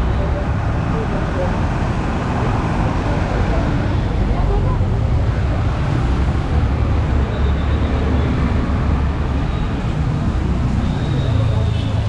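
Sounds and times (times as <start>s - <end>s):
city street traffic rumble: 0.0s - 12.0s
vehicles on wet road: 0.0s - 12.0s.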